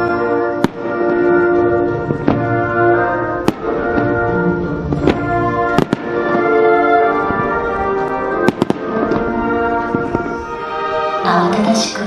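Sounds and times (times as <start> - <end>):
slow music with sustained chords: 0.0 - 12.0
firework shells bursting: 0.6 - 10.4.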